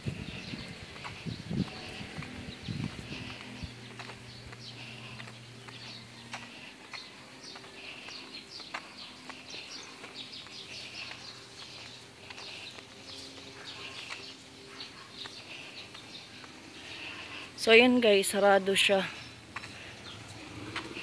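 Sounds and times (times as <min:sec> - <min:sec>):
birds chirping: 0:00.0 - 0:21.0
footsteps on concrete: 0:00.0 - 0:21.0.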